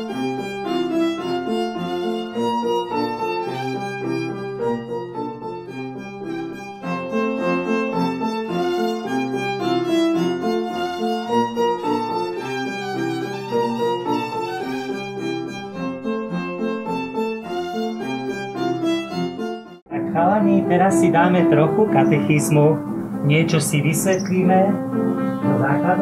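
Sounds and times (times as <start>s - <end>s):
violin music: 0.0s - 26.0s.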